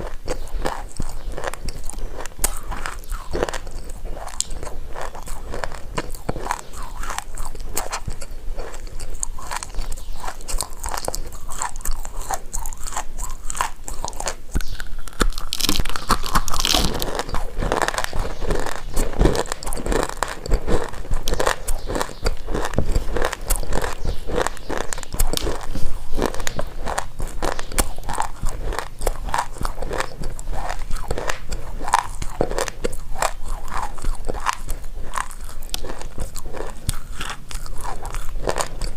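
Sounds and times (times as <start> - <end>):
crunching and chewing clay: 0.0 - 38.9.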